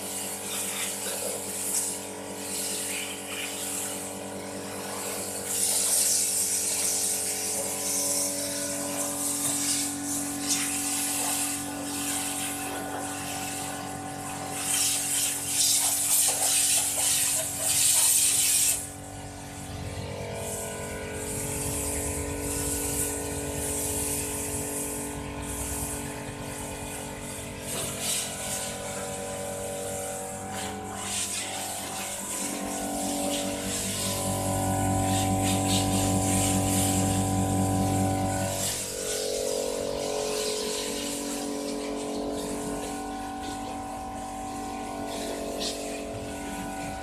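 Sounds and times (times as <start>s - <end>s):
pressure pump humming: 0.0s - 47.0s
water spray hissing on metal: 0.0s - 47.0s.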